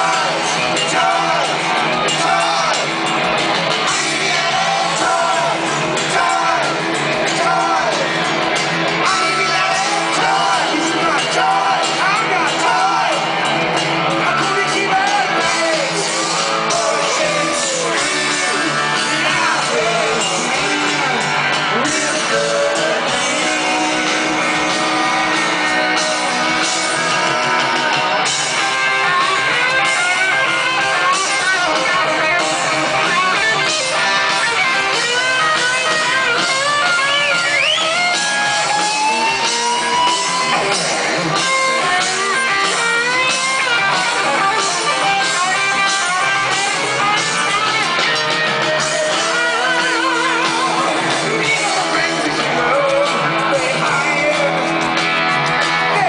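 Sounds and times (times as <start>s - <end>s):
hard rock band playing live: 0.0s - 56.0s
sliding electric guitar lines: 0.0s - 56.0s.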